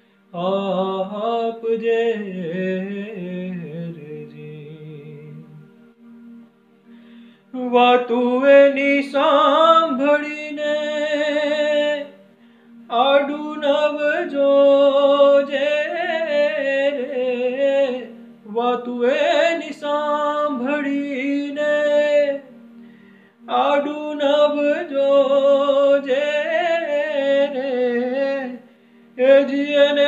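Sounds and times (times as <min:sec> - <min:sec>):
man singing devotional song: 0:00.3 - 0:05.8, 0:07.5 - 0:12.2, 0:12.9 - 0:22.6, 0:23.4 - 0:30.0.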